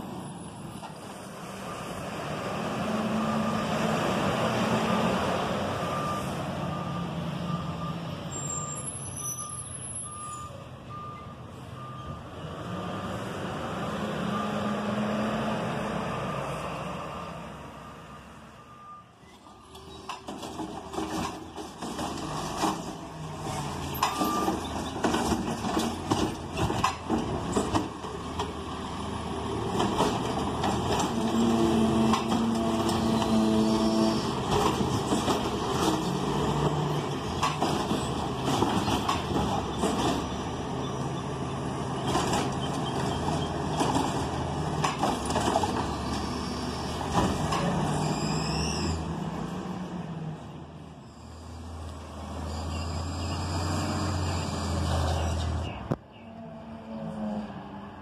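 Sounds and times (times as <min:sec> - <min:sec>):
garbage truck engine and hydraulics: 0:00.0 - 0:58.0.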